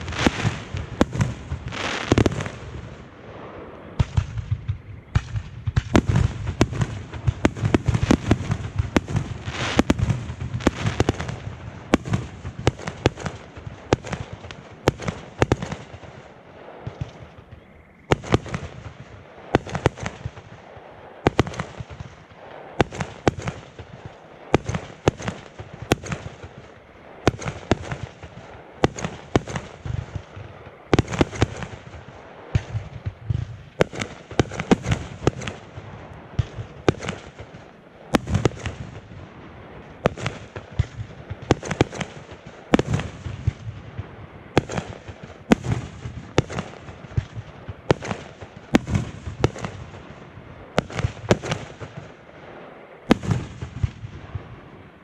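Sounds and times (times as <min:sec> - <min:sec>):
firework pops and crackle: 0:00.0 - 0:02.8, 0:04.0 - 0:16.2, 0:16.8 - 0:39.2, 0:39.8 - 0:50.1, 0:50.8 - 0:52.2, 0:53.1 - 0:54.5
firework bangs: 0:00.0 - 0:55.0.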